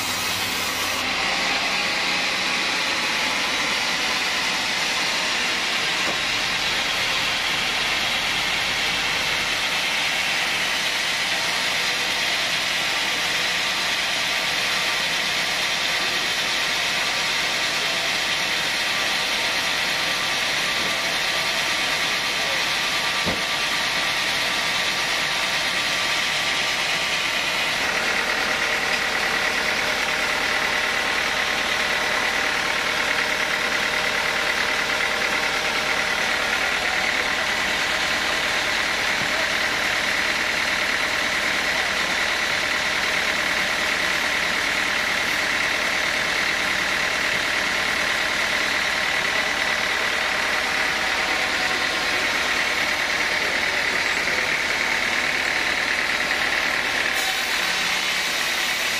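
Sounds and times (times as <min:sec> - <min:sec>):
band sawmill running: 0:00.0 - 0:58.9.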